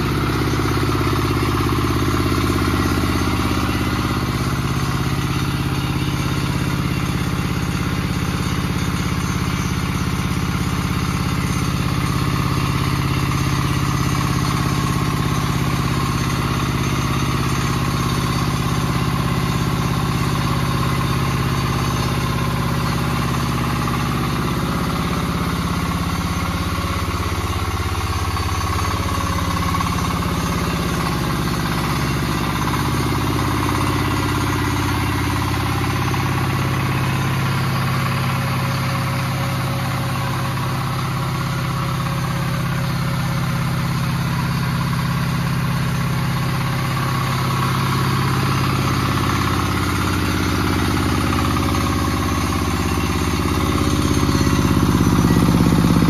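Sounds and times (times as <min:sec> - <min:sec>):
diesel engine running: 0:00.0 - 0:56.0
rice mill whirring: 0:00.0 - 0:56.0.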